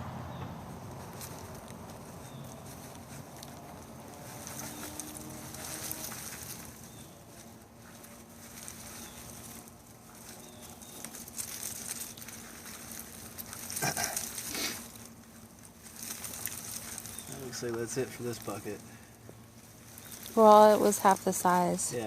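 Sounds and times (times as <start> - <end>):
hands rustling through soil: 0.6 - 22.0.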